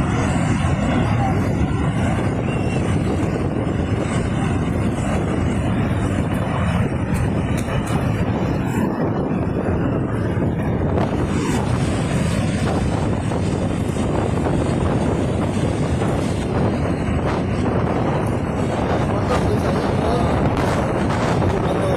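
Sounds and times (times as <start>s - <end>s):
landslide rumbling rush: 0.0s - 21.9s.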